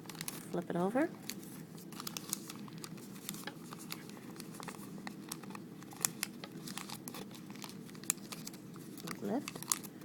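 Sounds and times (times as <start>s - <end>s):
paper crinkling and crackling: 0.0s - 10.0s.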